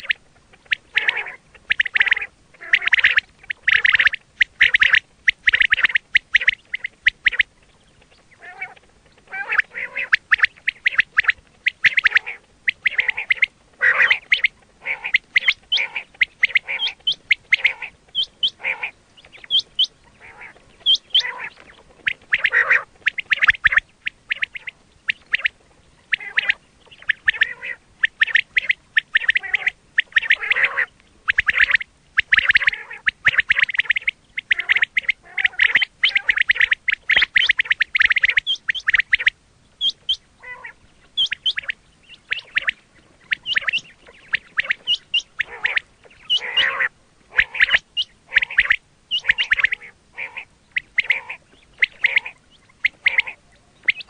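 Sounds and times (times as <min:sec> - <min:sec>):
quail calling in harsh bursts: 0:00.0 - 0:54.0.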